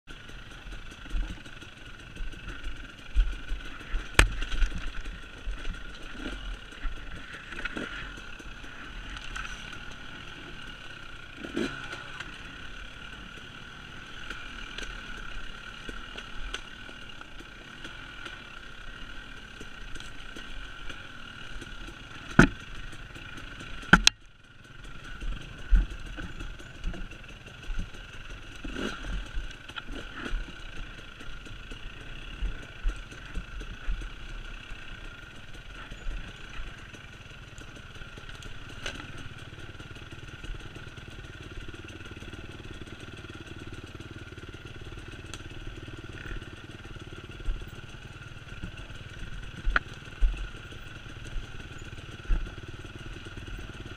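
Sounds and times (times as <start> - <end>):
dirt bike engine running: 0.1 - 53.9
bike clattering over roots: 0.2 - 53.9.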